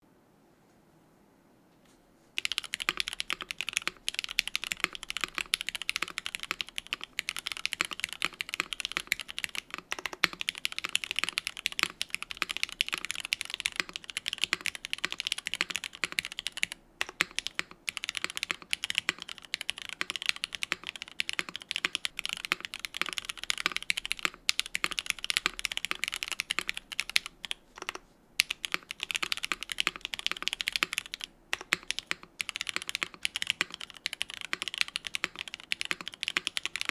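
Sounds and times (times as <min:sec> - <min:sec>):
fast mechanical keyboard typing: 0:02.4 - 0:36.9.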